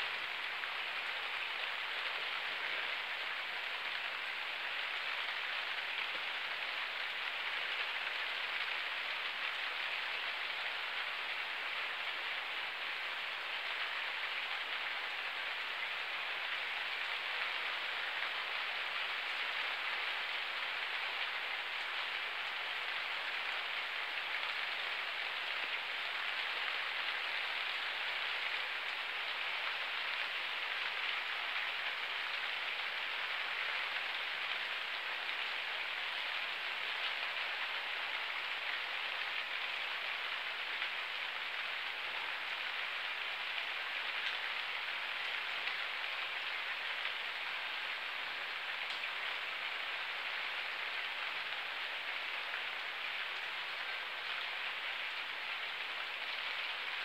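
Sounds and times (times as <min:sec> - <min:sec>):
steady rain on rooftops: 0:00.0 - 0:57.0.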